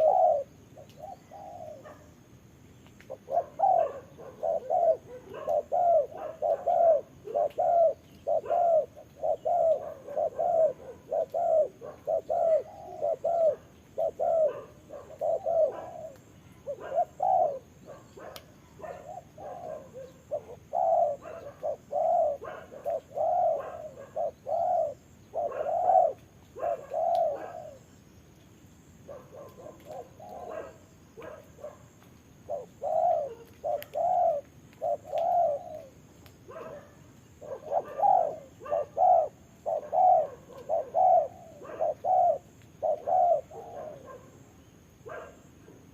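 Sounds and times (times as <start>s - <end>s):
doves cooing: 0.0s - 2.1s, 3.0s - 28.0s, 29.0s - 44.5s.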